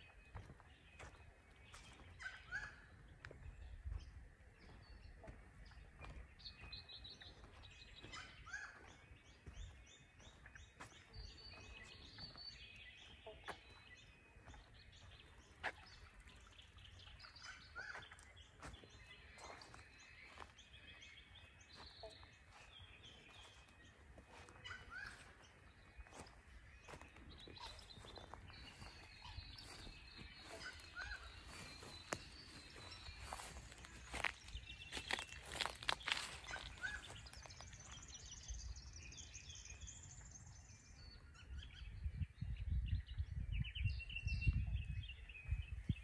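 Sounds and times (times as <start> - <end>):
faint wild birds chirping: 0.0 - 46.0.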